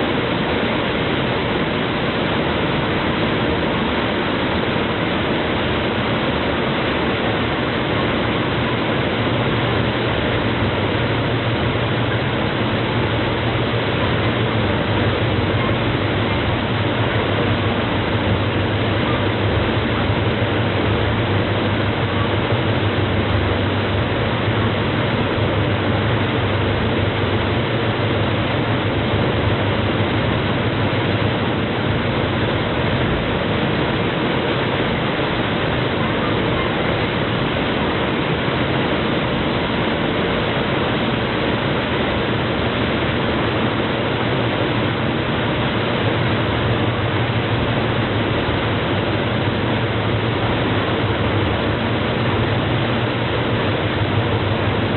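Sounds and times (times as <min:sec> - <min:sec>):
boat engines: 0:00.0 - 0:54.9
rushing water: 0:00.0 - 0:54.9.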